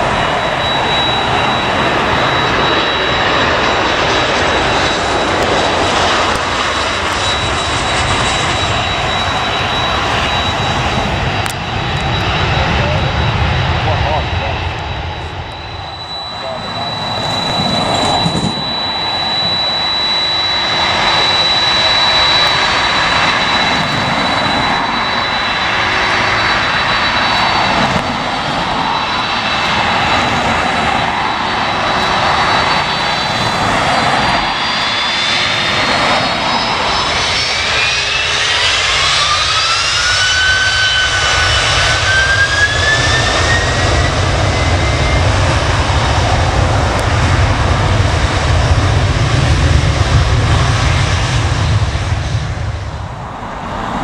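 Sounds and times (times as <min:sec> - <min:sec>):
jet engines running: 0:00.0 - 0:54.0
whine climbing in pitch: 0:00.0 - 0:54.0.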